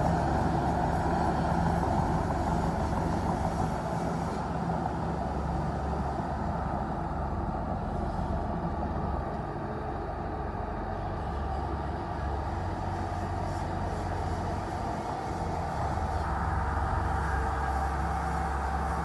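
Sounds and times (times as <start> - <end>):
bulldozer diesel engine rumbling: 0.0 - 19.0.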